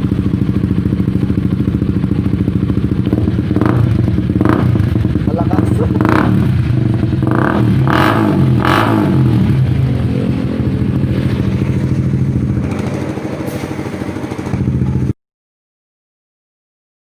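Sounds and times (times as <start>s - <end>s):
motorcycle engine revving and idling: 0.0s - 15.2s.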